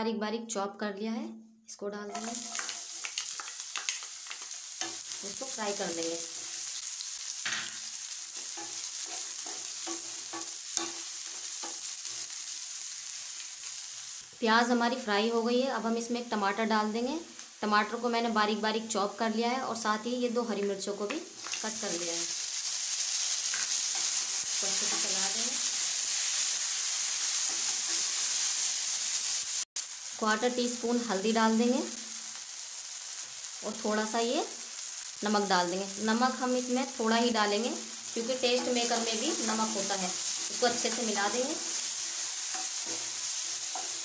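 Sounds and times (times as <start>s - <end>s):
onion sizzling in hot oil: 2.1s - 44.0s.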